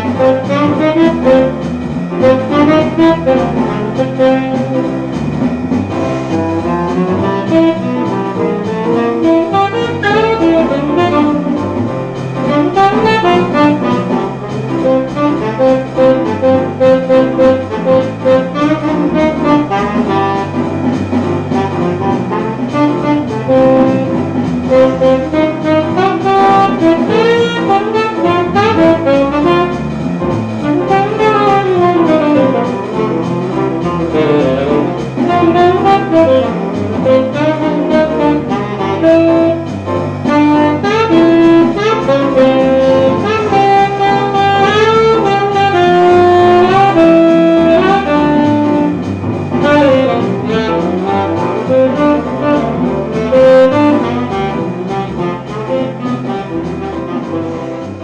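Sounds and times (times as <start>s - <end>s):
backing track with bass line: 0.0s - 58.0s
tenor saxophone jazz phrases: 0.0s - 58.0s.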